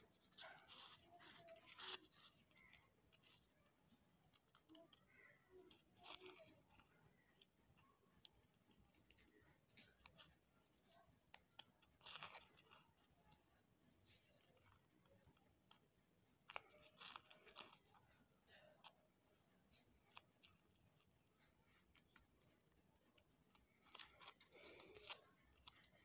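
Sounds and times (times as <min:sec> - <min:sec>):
scissors snipping paper: 0:00.0 - 0:13.5, 0:14.1 - 0:19.0, 0:19.7 - 0:26.0.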